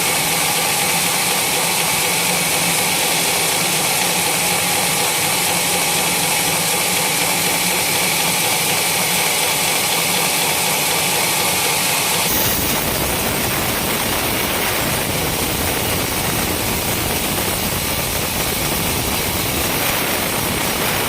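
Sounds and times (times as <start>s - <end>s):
sawmill sawing wood: 0.0s - 21.0s.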